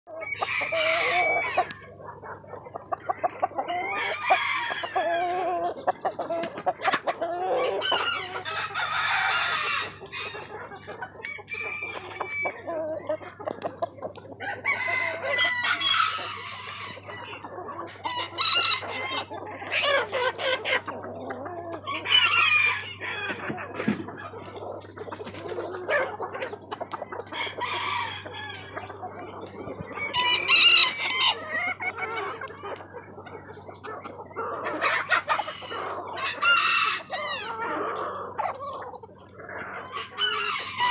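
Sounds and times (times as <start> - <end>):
chickens clucking: 0.1 - 40.9
roosters crowing: 0.1 - 40.9.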